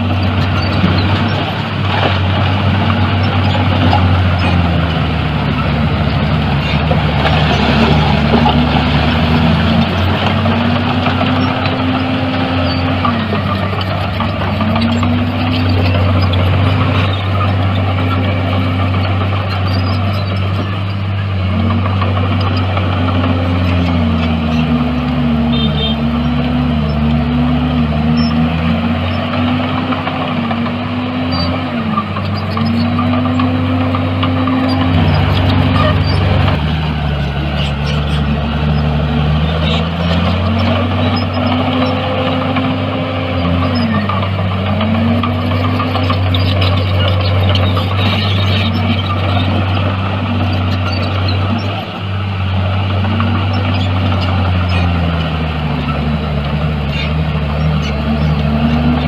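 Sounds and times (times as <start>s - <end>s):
diesel machine engine revving: 0.0s - 59.0s.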